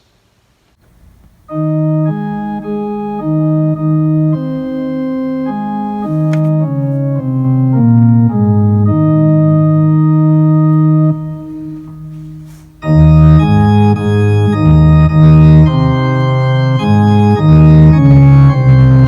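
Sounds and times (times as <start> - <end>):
organ playing slow chords: 0.8 - 19.0.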